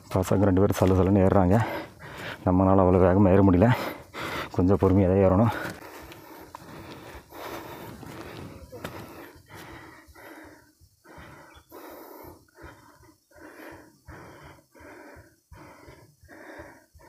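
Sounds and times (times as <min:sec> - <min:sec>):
person breathing hard: 0:01.3 - 0:02.7, 0:03.6 - 0:04.6, 0:05.4 - 0:17.0.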